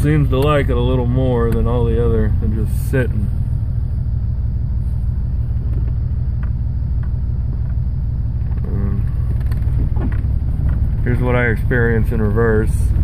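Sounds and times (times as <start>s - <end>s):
car engine idling roughly: 0.0s - 13.0s.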